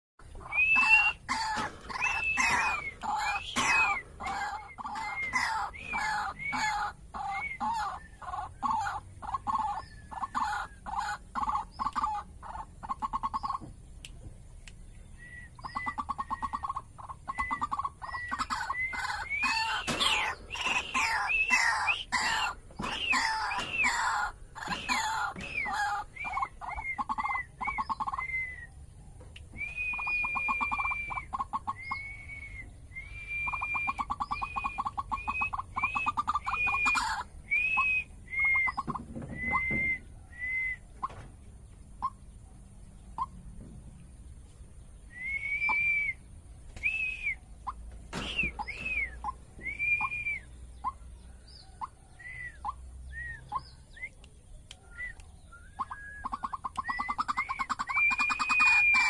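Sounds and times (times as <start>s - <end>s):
waterhen calling: 0.2s - 13.8s, 15.2s - 28.7s, 29.5s - 41.3s, 45.1s - 54.1s, 55.0s - 59.0s.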